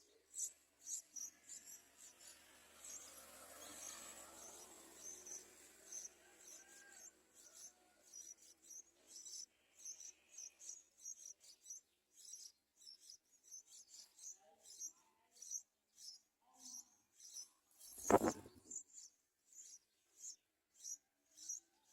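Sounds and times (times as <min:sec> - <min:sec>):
faint high-pitched chirping: 0:00.0 - 0:21.9.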